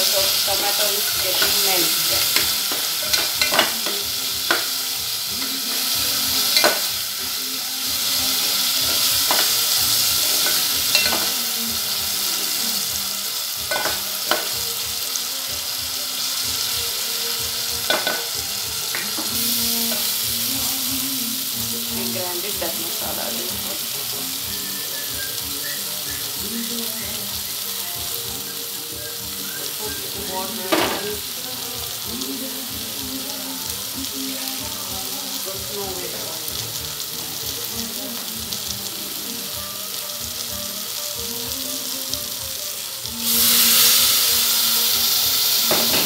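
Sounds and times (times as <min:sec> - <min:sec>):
onions sizzling in oil: 0:00.0 - 0:46.0.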